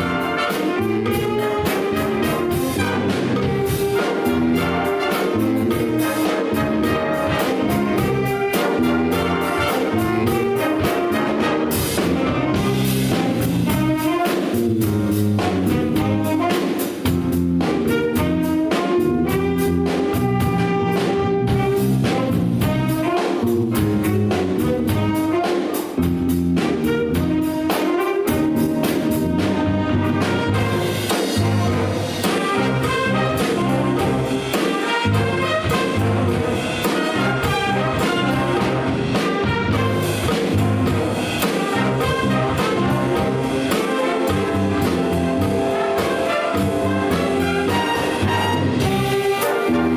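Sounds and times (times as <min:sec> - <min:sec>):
big band playing jazz: 0:00.0 - 0:49.9.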